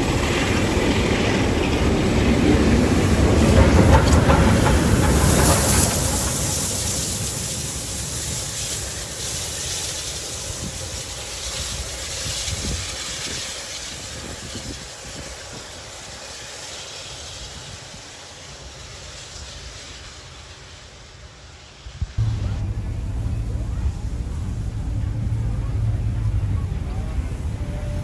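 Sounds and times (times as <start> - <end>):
steam train rumble and hiss: 0.0 - 28.0.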